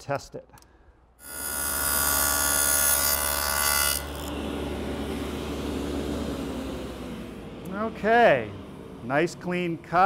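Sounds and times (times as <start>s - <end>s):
saw blades spinning hum: 1.2s - 10.0s
table saw cutting board: 1.2s - 10.0s.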